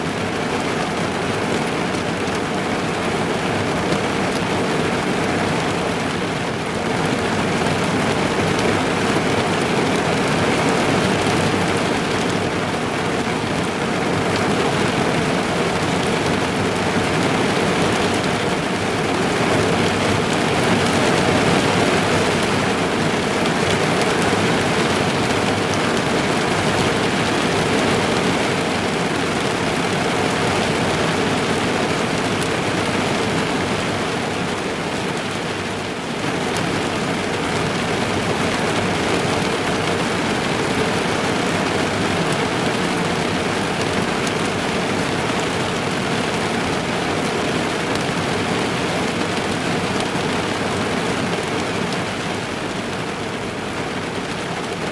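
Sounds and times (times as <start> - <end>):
heavy rain on a car roof: 0.0 - 54.9.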